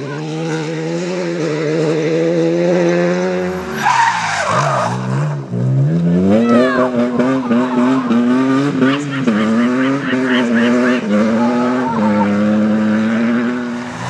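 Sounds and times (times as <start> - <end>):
rally car engine revving: 0.0 - 14.0
tyres skidding: 0.0 - 14.0.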